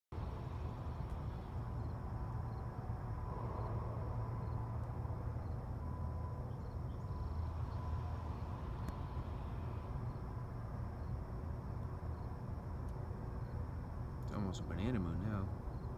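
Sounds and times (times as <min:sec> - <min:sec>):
faint insect chirps: 0:00.2 - 0:15.9.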